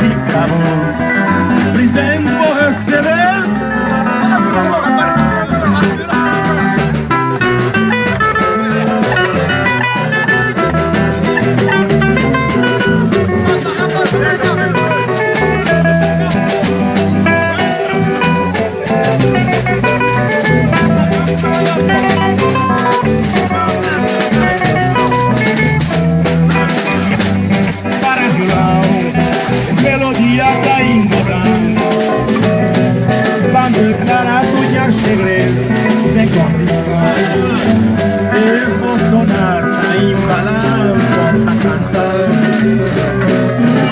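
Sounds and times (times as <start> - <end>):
live band guitars and drums: 0.0 - 43.9.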